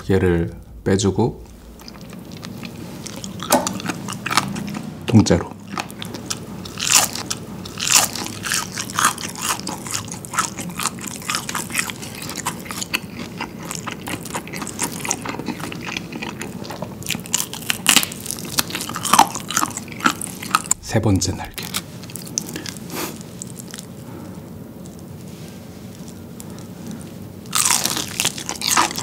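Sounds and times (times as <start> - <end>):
crunching and chewing fried chicken: 1.6 - 20.8, 21.4 - 29.0.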